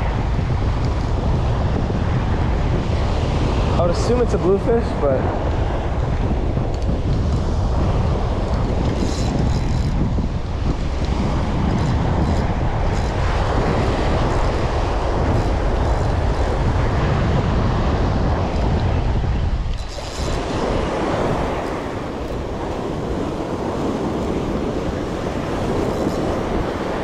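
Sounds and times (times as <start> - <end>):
surf washing up beach: 0.0 - 27.0
wind buffeting microphone: 0.0 - 27.0.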